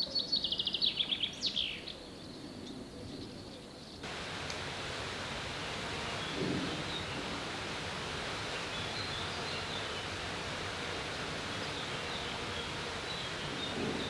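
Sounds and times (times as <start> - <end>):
outdoor ambient hiss: 0.5 - 14.0.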